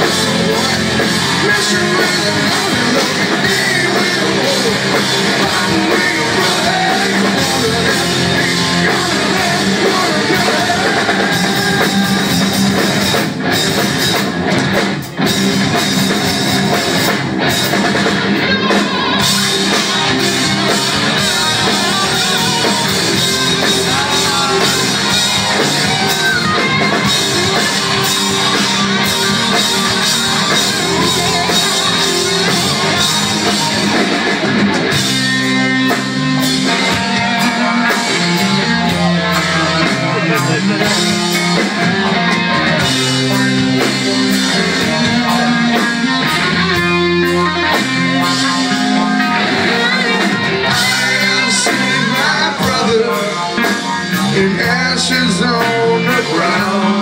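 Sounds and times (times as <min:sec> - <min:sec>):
hard rock band playing live: 0:00.0 - 0:57.0.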